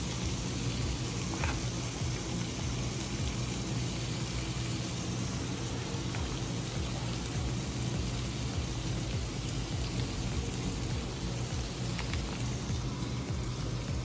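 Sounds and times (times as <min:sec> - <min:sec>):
frying pan hissing: 0:00.0 - 0:14.0
steady low hum: 0:00.0 - 0:14.0.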